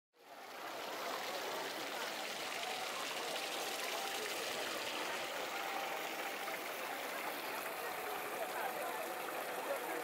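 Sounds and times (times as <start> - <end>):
fountain water splashing: 0.2 - 10.0.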